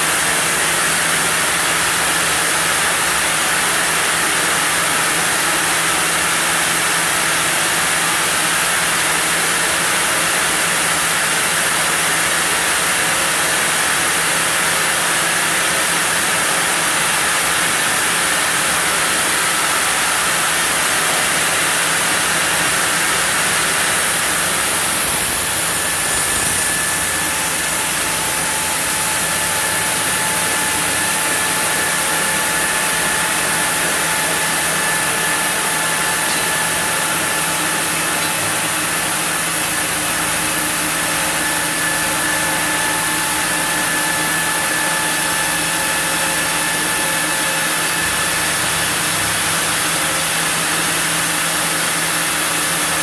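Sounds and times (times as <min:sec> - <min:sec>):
sawmill saw cutting timber: 0:00.0 - 0:53.0.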